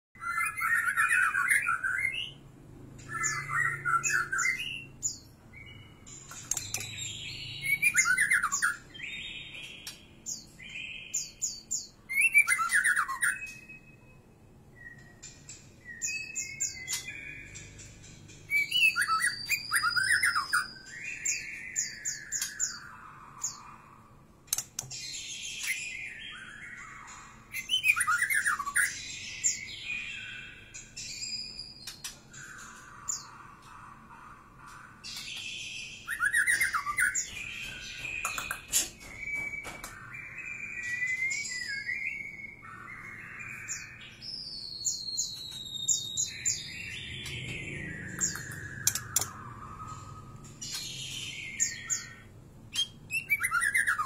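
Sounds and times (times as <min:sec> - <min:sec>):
songbird singing: 0:00.2 - 0:54.0.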